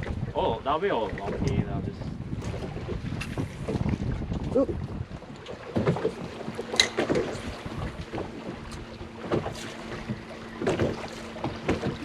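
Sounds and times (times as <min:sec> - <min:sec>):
wind buffeting microphone: 0:00.0 - 0:12.0
water splashes: 0:02.4 - 0:12.0.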